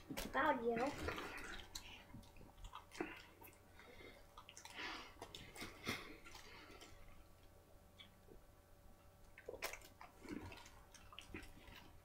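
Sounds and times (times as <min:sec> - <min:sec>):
person chewing food: 0:00.9 - 0:12.0.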